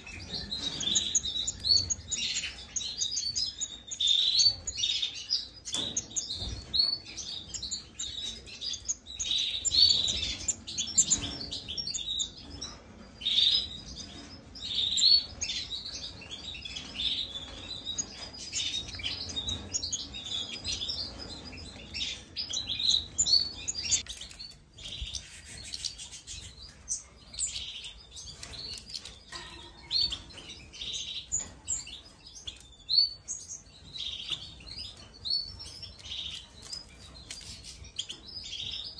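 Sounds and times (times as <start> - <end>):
finches chirping and twittering: 0.0 - 38.9.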